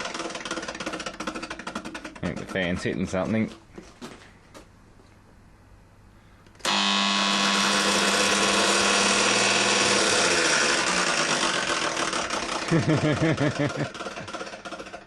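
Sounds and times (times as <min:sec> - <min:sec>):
air conditioner harsh rattle: 0:00.0 - 0:04.4, 0:06.6 - 0:15.0
air conditioner electrical hum: 0:00.0 - 0:15.0.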